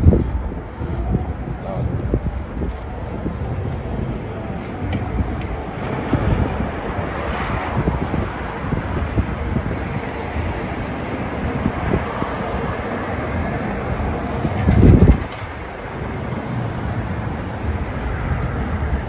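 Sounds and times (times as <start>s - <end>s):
road traffic: 0.0s - 19.0s
wind buffeting microphone: 0.0s - 19.0s.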